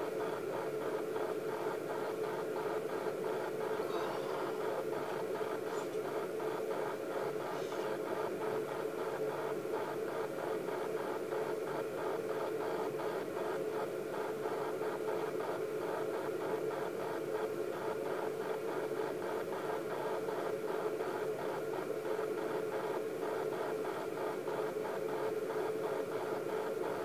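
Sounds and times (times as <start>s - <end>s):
constant hum: 0.0s - 27.0s
baby monitor speaker hiss: 0.1s - 27.0s.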